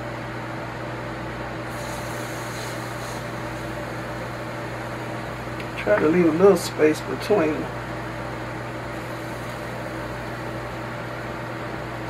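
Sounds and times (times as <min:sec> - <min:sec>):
kitchen appliance fan humming: 0:00.0 - 0:12.0.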